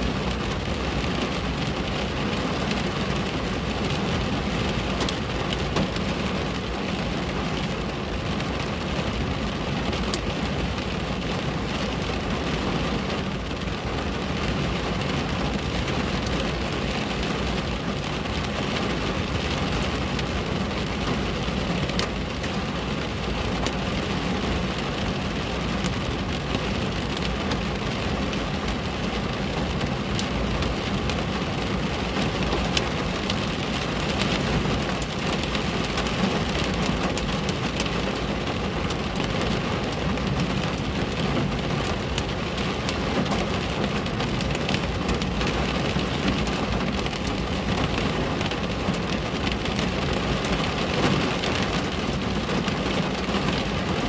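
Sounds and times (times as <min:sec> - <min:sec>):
rain pattering on a window: 0:00.0 - 0:54.0.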